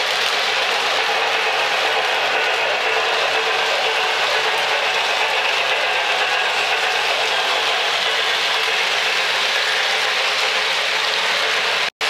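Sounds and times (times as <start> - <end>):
model train motors whirring: 0.0 - 11.9
wheels rolling over track: 0.0 - 11.9.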